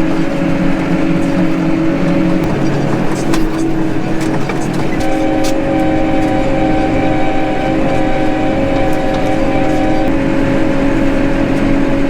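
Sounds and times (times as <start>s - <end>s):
steady whine: 0.0s - 12.0s
tractor engine running: 0.0s - 12.0s.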